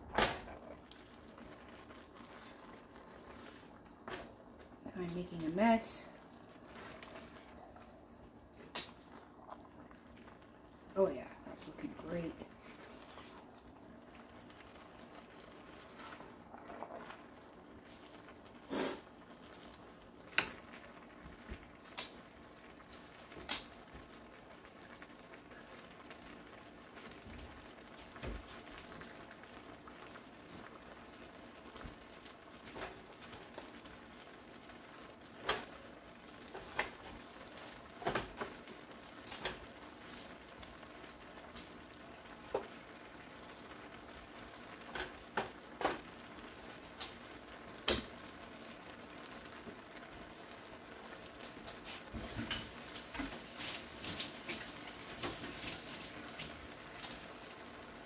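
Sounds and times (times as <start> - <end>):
noodles sizzling in a wok: 0.0 - 58.0.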